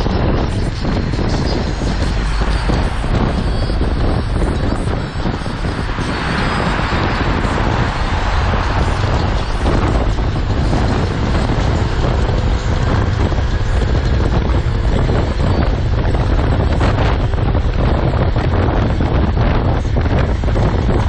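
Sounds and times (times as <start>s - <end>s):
motorcycle engine: 0.0s - 21.0s
road noise: 0.0s - 21.0s
wind buffeting microphone: 0.0s - 21.0s.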